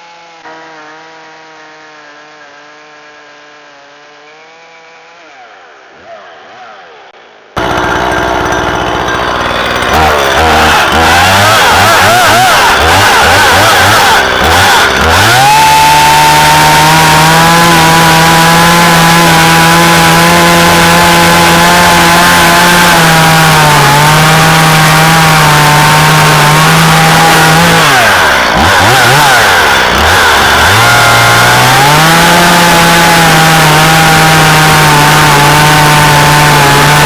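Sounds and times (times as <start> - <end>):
chainsaw running at high revs: 0.0 - 5.3, 7.6 - 37.0.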